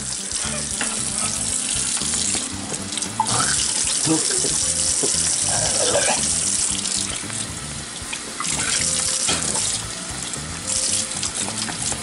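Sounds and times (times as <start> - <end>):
background music with bass line: 0.0 - 12.0
water running: 0.0 - 12.0.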